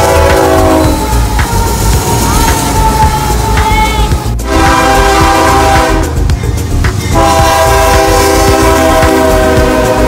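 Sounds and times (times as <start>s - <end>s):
locomotive air horn: 0.0s - 6.3s, 7.1s - 10.0s
passing locomotive rumble: 0.0s - 10.0s.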